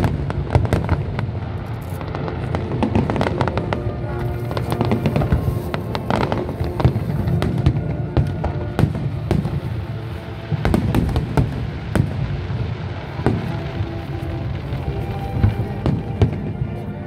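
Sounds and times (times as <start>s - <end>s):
fireworks bursting: 0.0s - 17.0s
music playing: 0.0s - 17.0s.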